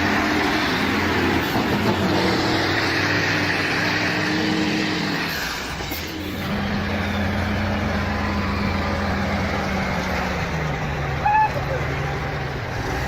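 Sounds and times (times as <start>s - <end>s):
road noise: 0.0s - 13.0s
vehicle engine running: 0.0s - 13.0s.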